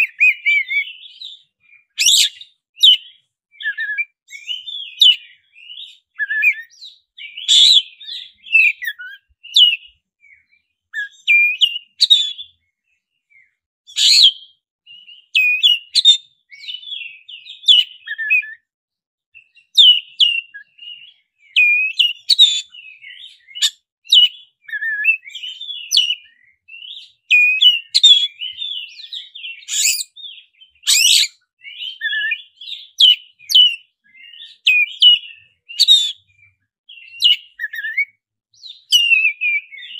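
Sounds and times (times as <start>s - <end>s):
bird singing whistles and trills: 0.0s - 18.7s, 19.4s - 39.9s.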